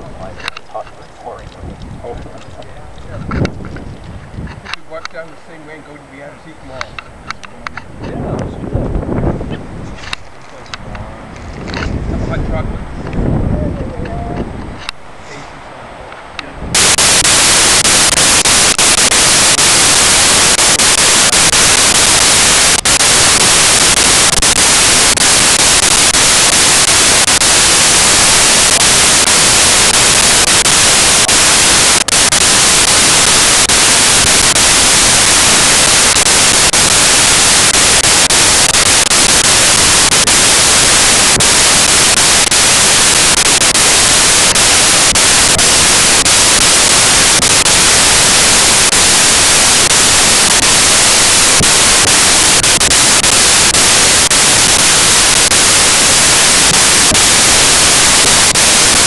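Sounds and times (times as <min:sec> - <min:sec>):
static hiss: 0:00.0 - 0:08.0, 0:14.3 - 0:59.0.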